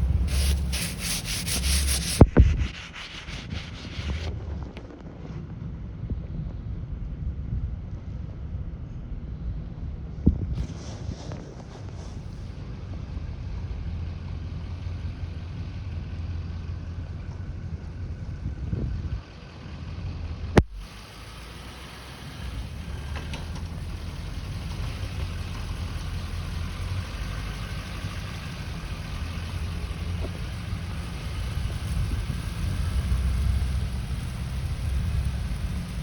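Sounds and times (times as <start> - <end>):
low rumbling street ambience: 0.0 - 36.0.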